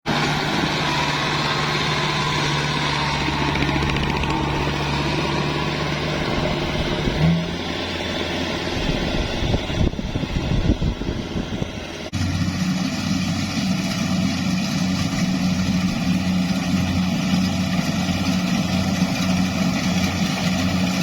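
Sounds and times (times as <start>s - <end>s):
farm machine engine running: 0.1s - 21.0s.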